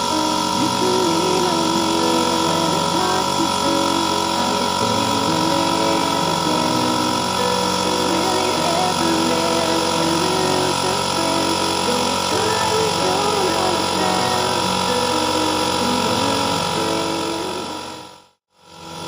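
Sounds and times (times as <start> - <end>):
electric air compressor running: 0.0 - 19.0.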